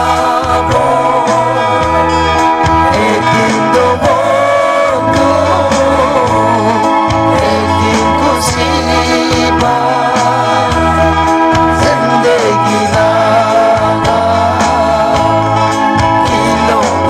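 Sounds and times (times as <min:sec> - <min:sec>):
amplified guitar and bass music: 0:00.0 - 0:17.0
man singing into a microphone: 0:00.0 - 0:17.0.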